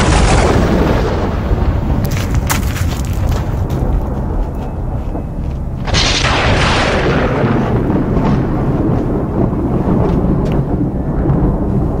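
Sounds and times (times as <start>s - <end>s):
thunderclap with rolling rumble: 0.0s - 12.0s.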